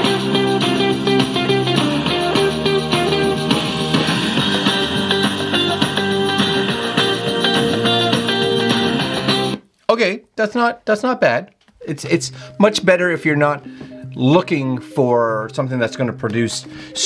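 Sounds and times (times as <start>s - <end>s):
guitar music through small speaker: 0.0s - 9.6s, 12.4s - 17.0s.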